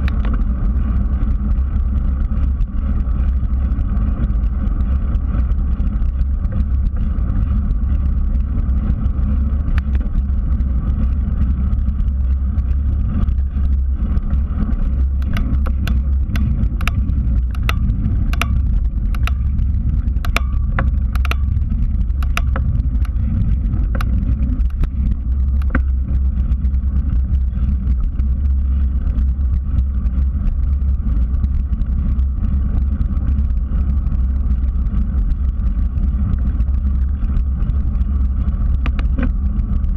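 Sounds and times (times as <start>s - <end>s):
bicycle tyres on pavement: 0.0s - 39.9s
sharp irregular clicks and rattles: 0.0s - 39.9s
wind buffeting: 0.0s - 39.9s.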